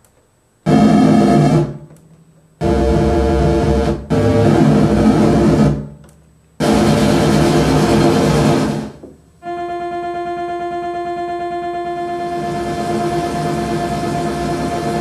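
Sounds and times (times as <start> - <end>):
distorted synthesizer chord blasts: 0.7 - 1.8, 2.6 - 5.9, 6.6 - 15.0.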